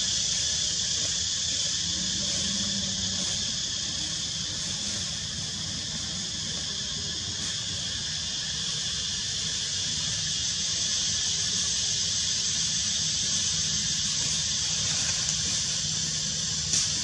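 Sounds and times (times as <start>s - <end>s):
forest insects droning: 0.0s - 17.0s.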